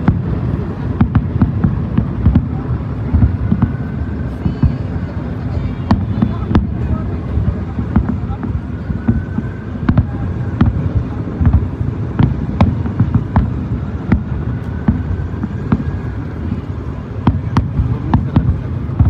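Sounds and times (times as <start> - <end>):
fireworks bursting with sharp bangs: 0.0 - 19.0
low rumble of distant booms: 0.0 - 19.0.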